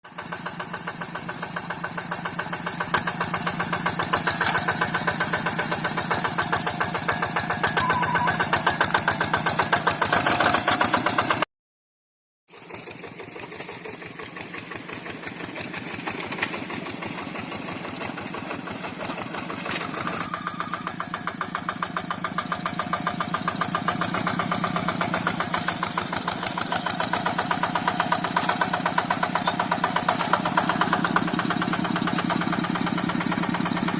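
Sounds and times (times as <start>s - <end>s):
tractor diesel engine running: 0.1s - 11.4s, 12.5s - 33.9s.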